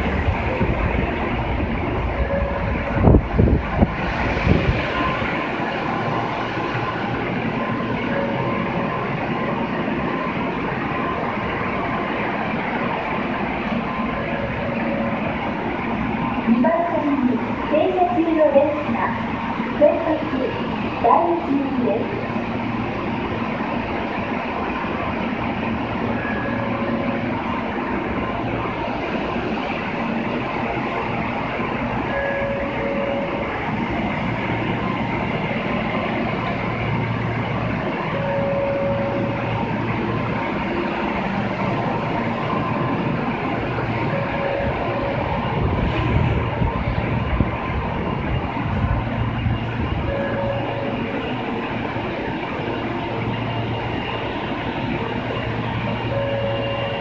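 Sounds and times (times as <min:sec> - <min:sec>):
faint steady tones: 0:00.0 - 0:57.0
stopped train humming and hissing: 0:00.0 - 0:57.0.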